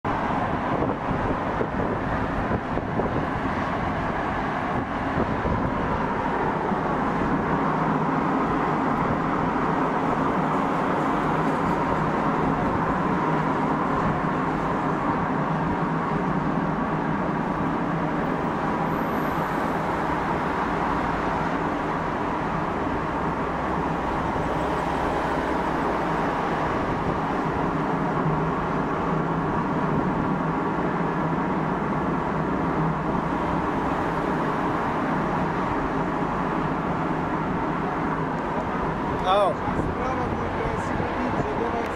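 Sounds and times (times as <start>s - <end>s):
cars driving along a road: 0.0s - 41.9s.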